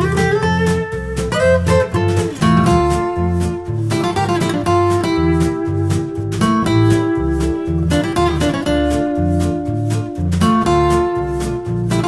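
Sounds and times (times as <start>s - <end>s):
pulsing bass line: 0.0s - 12.0s
strummed guitar: 0.0s - 12.0s.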